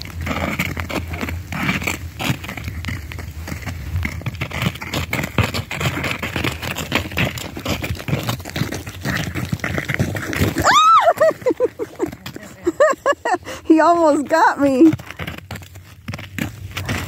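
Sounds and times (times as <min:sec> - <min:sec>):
footsteps crunching in snow: 0:00.0 - 0:17.0.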